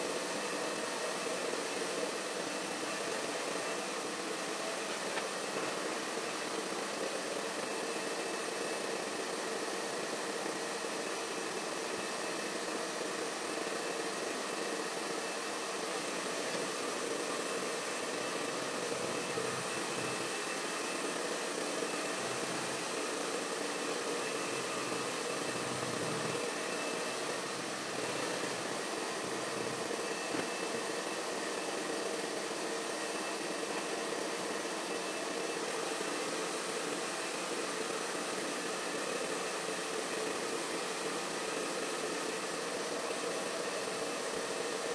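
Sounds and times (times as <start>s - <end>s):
hair dryer running: 0.0s - 44.9s.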